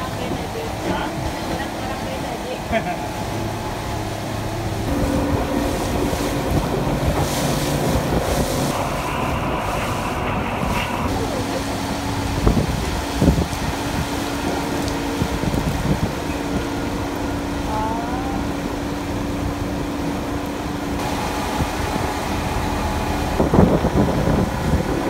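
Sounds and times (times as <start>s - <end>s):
boat engine running: 0.0s - 25.0s
wind noise on microphone: 3.6s - 25.0s.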